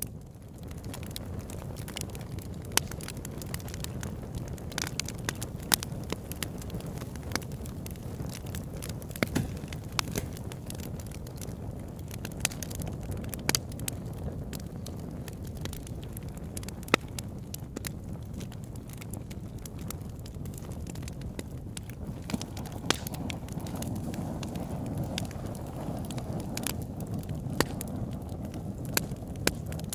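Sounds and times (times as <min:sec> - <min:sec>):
log fire crackling and popping: 0:00.0 - 0:29.9
low fire rumble: 0:00.0 - 0:29.9.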